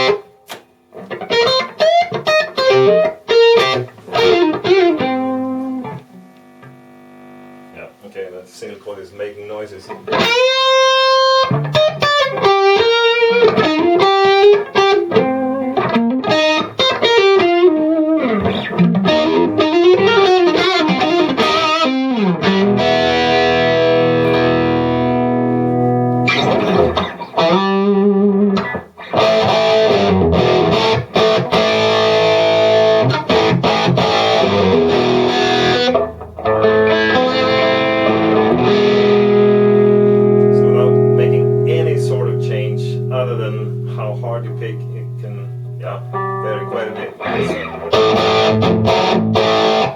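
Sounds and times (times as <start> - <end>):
electric guitar through amplifier: 0.0 - 8.0, 9.5 - 49.9.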